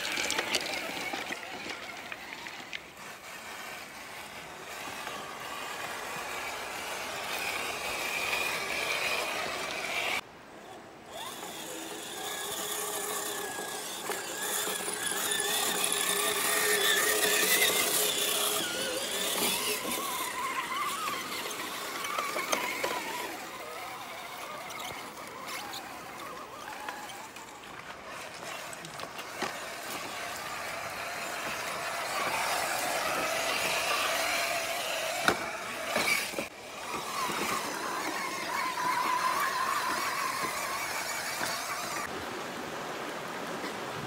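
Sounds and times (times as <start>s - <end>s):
electric motor whine: 0.0s - 10.2s, 11.1s - 42.1s.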